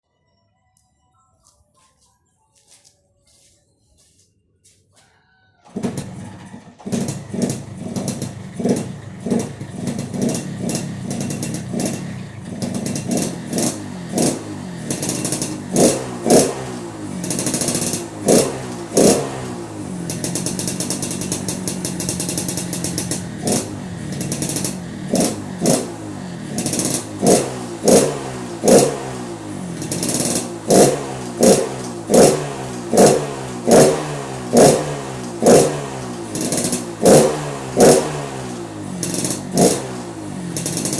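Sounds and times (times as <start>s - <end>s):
motorcycle engine revving: 5.6s - 40.9s.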